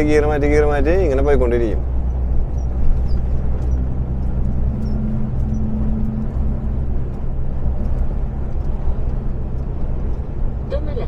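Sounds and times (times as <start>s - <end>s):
truck engine and tyres rumbling: 0.0s - 11.0s.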